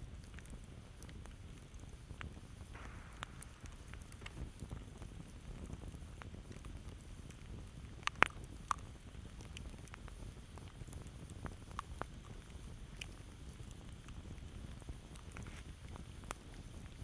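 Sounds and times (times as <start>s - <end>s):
campfire crackling and popping: 0.0s - 17.0s
low rumble of burning wood: 0.0s - 17.0s.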